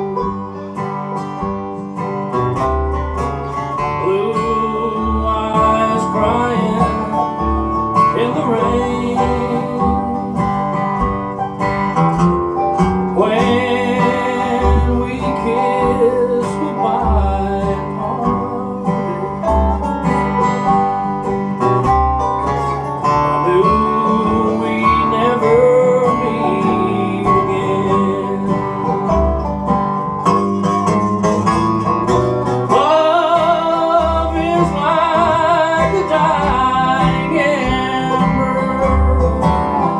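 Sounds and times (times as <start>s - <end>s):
bluegrass band playing: 0.0s - 39.9s.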